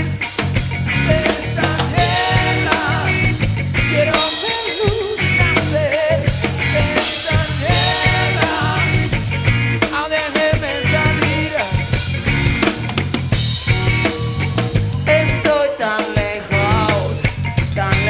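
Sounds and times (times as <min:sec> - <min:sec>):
song with steady drum beat: 0:00.0 - 0:18.0.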